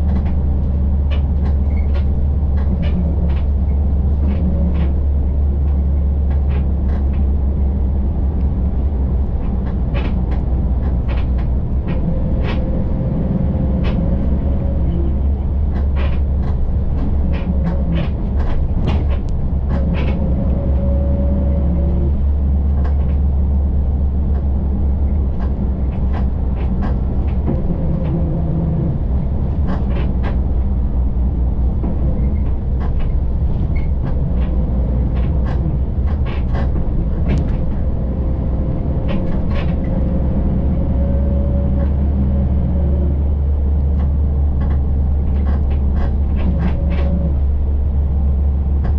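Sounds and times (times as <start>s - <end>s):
bus engine and road rumble: 0.0s - 48.9s.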